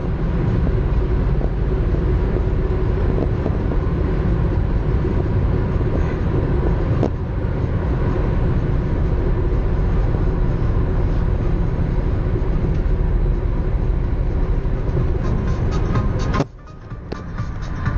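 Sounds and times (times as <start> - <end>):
car engine at high revs: 0.0 - 17.9
road noise: 0.0 - 17.9.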